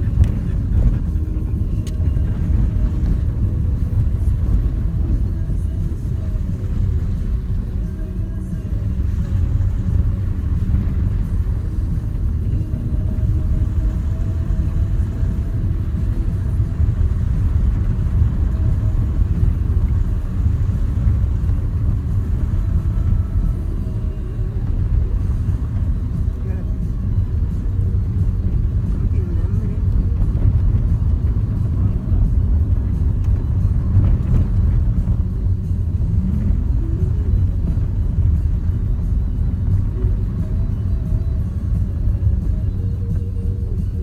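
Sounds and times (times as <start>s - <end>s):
car engine and tyres rumbling: 0.0s - 44.0s.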